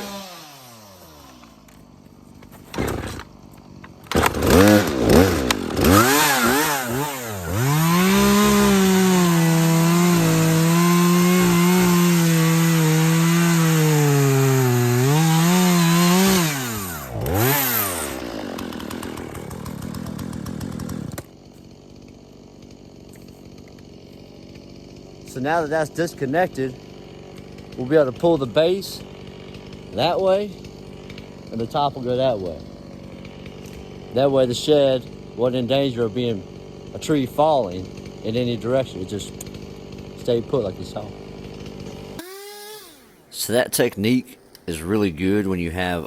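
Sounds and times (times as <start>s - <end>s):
chainsaw cutting through trunk: 0.0s - 46.0s.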